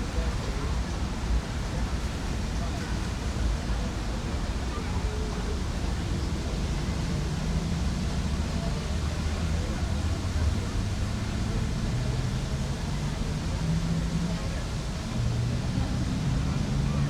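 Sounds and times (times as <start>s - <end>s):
faint distant voices: 0.0s - 17.0s
low city rumble: 0.0s - 17.0s.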